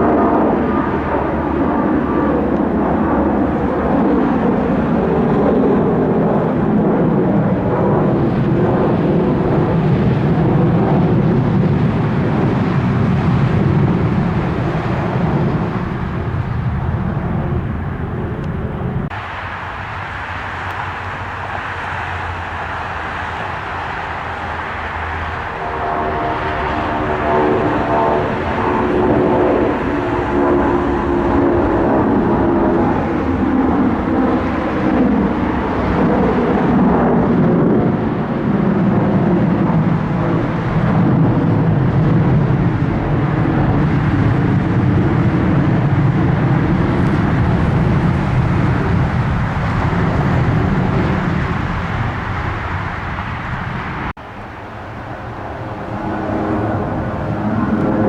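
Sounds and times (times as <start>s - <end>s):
airliner passing by: 0.0s - 58.0s.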